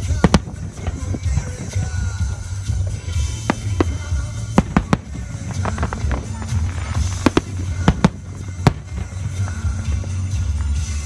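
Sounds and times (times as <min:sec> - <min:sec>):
firework shells bursting: 0:00.0 - 0:10.1
music with heavy bass: 0:00.0 - 0:11.0.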